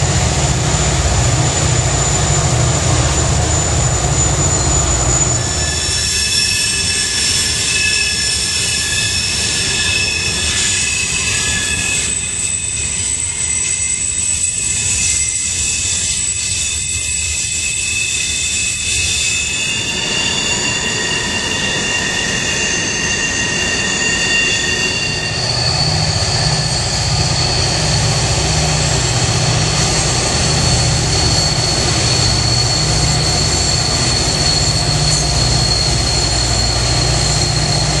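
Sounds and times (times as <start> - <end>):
diesel locomotive engine drone: 0.0 - 38.0
train wheel squeal: 0.0 - 38.0.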